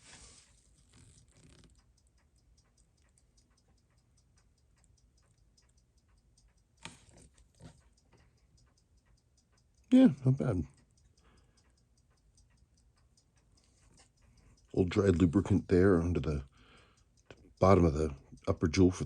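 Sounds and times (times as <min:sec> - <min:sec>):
mechanical clock ticking: 0:00.0 - 0:19.0.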